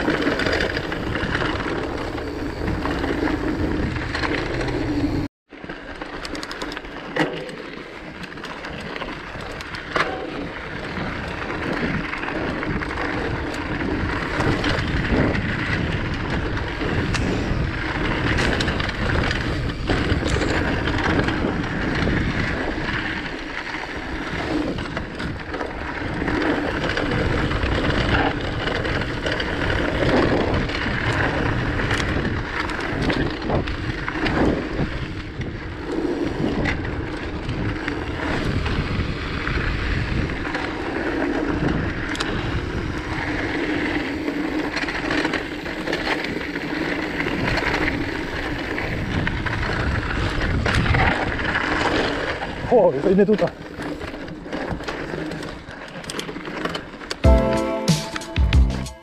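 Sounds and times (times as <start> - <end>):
bike rattling and knocking: 0.0 - 57.2.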